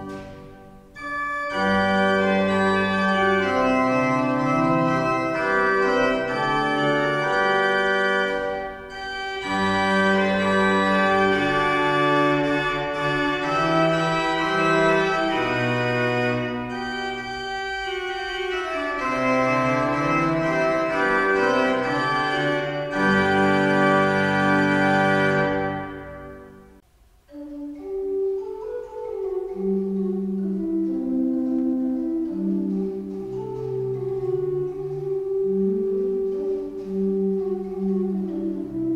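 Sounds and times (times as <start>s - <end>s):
pipe organ playing chords: 0.0s - 38.9s.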